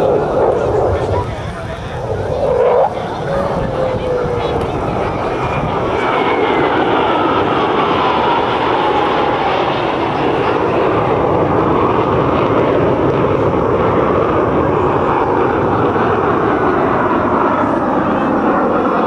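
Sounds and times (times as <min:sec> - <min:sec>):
jet engine rumble: 0:00.0 - 0:19.0
jet whine falling in pitch: 0:00.0 - 0:19.0.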